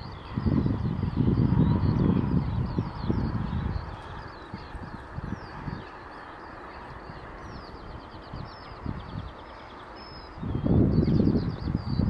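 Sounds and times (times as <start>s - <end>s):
small birds singing: 0.0s - 12.0s.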